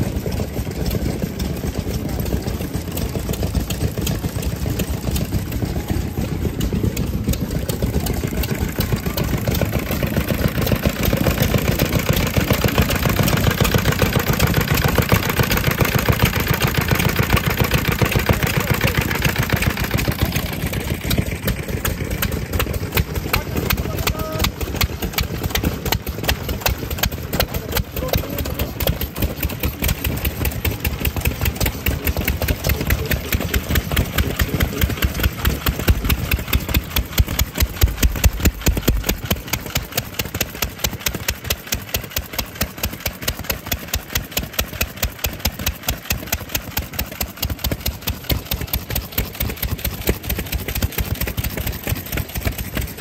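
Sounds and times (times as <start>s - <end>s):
stationary engine idling: 0.0s - 53.0s.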